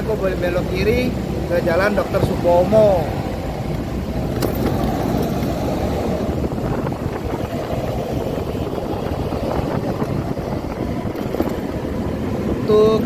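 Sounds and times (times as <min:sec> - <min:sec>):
motorcycle engine: 0:00.0 - 0:13.0
wind rumbling on microphone: 0:00.0 - 0:13.0.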